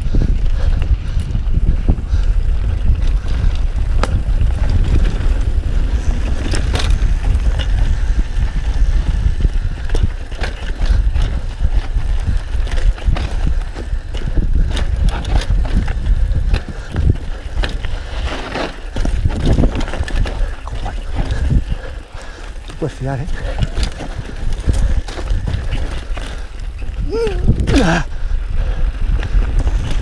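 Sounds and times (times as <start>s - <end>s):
bike clicks and rattles: 0.0s - 30.0s
wind on microphone: 0.0s - 30.0s
tyres on dirt: 1.1s - 30.0s.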